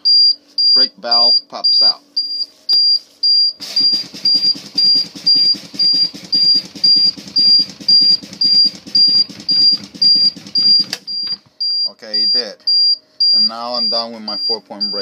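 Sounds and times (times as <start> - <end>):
warning buzzer beeping: 0.0 - 15.0.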